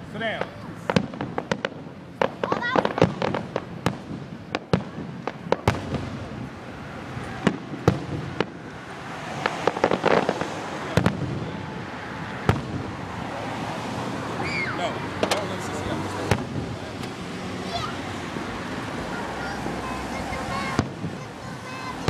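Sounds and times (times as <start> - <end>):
fireworks bangs and cracks: 0.0 - 22.0.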